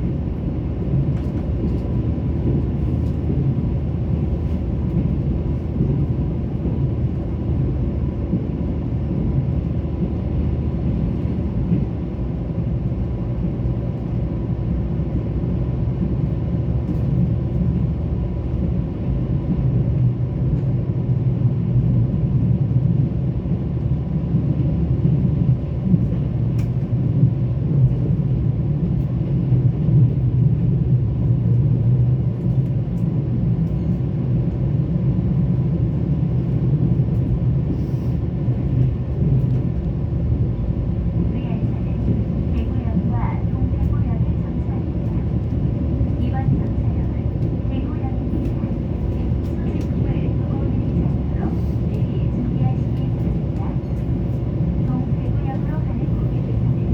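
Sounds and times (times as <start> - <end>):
train rumble inside carriage: 0.0 - 56.9.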